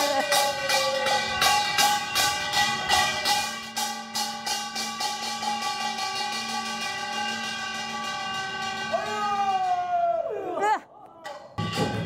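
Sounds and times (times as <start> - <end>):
fast percussion beats: 0.0 - 10.1, 11.2 - 12.0.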